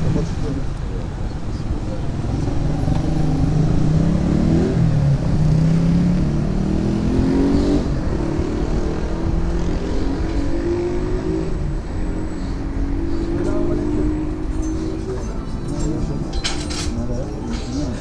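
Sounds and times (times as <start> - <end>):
car engine revving: 2.0 - 17.3.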